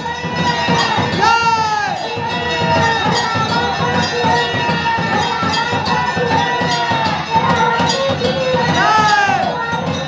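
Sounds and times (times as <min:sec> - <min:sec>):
brass bells clanging: 0:00.0 - 0:10.0
crowd shouting and chanting: 0:00.0 - 0:10.0.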